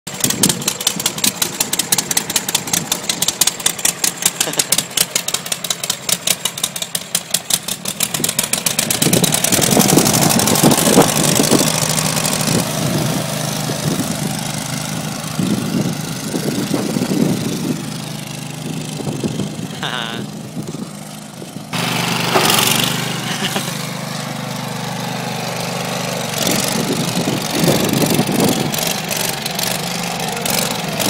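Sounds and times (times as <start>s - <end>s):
exhaust popping and backfiring: 0.1s - 31.0s
mower engine running: 0.1s - 31.0s.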